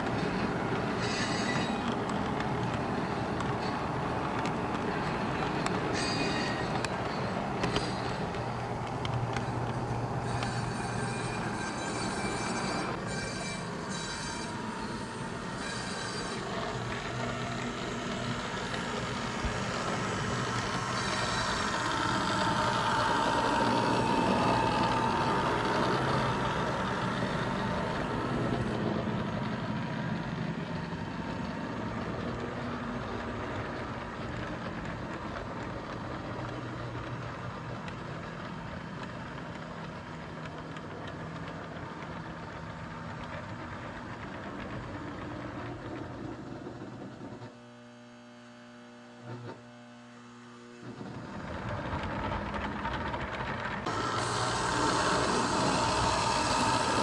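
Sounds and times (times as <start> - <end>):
freight train wheels rumbling: 0.0 - 47.6, 50.8 - 57.0.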